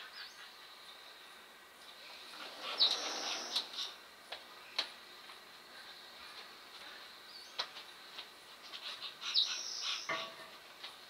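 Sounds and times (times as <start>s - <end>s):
birds chirping: 0.0s - 7.9s, 8.6s - 10.4s.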